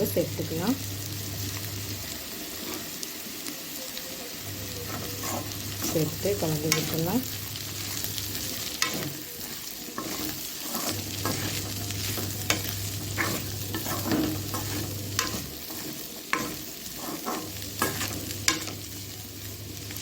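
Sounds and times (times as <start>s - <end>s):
vegetables sizzling in oil: 0.0s - 20.0s
spatula scraping a pan: 2.3s - 3.1s, 4.6s - 20.0s.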